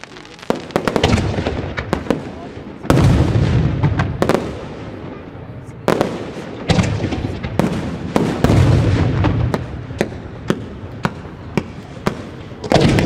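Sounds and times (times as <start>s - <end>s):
light firework pops: 0.0s - 5.2s, 5.9s - 13.0s
firework bangs: 0.0s - 13.0s.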